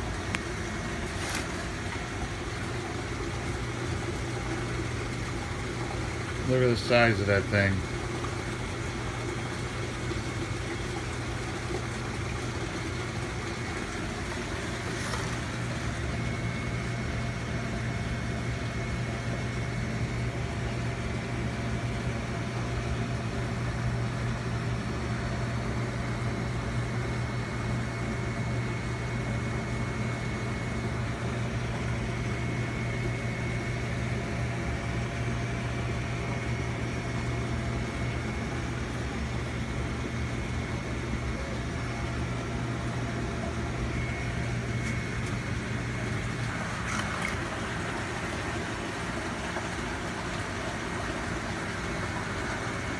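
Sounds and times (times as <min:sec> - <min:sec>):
aquarium pumps humming: 0:00.0 - 0:52.9.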